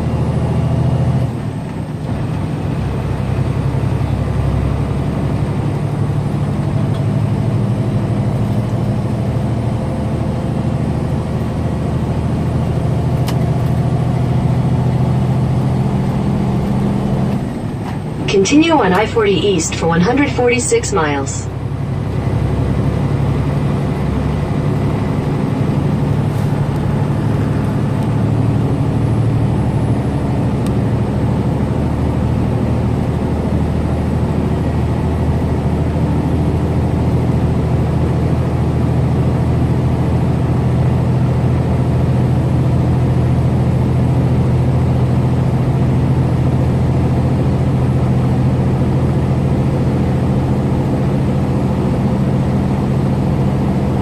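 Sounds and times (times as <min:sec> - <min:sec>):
road noise: 0:00.0 - 0:54.0
truck diesel engine drone: 0:00.0 - 0:54.0.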